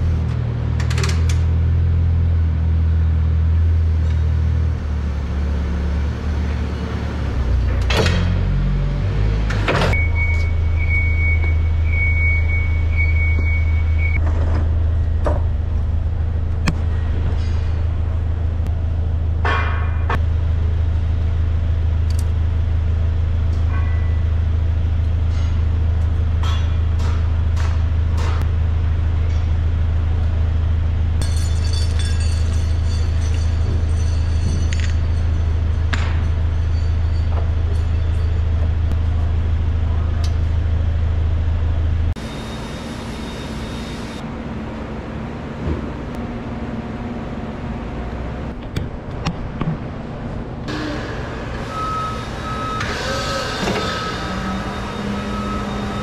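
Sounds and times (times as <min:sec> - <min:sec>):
engine humming: 0:00.0 - 0:56.0.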